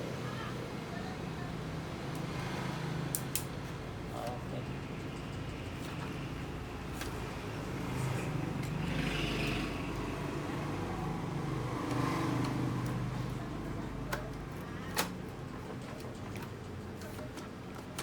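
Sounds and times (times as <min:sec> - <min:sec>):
motor vehicles passing: 0:00.0 - 0:15.9.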